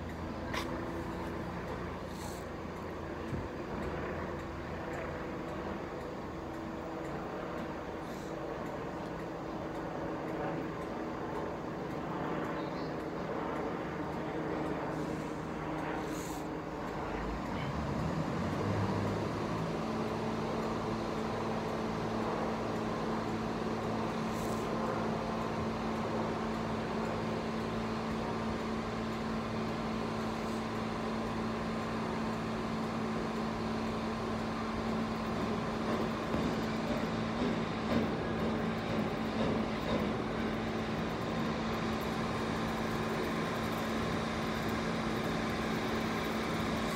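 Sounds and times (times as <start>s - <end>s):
diesel train engine running: 0.0s - 46.9s.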